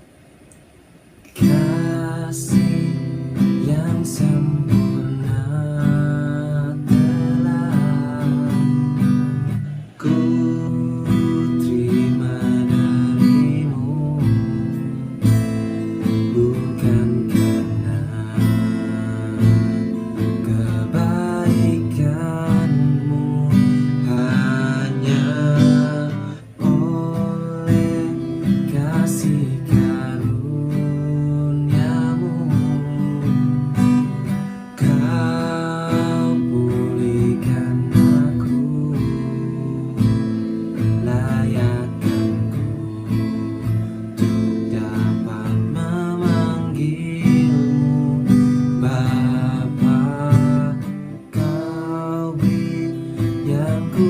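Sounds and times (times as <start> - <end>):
acoustic guitar strumming: 0.7 - 54.0
man singing: 1.3 - 54.0.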